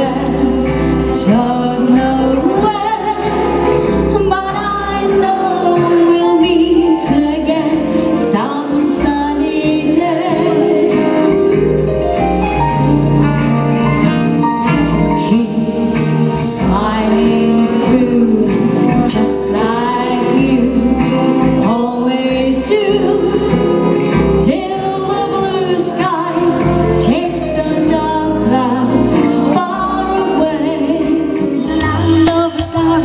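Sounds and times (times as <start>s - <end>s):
woman singing into microphone: 0.0s - 11.6s, 14.9s - 33.0s
live band playing: 0.0s - 33.0s.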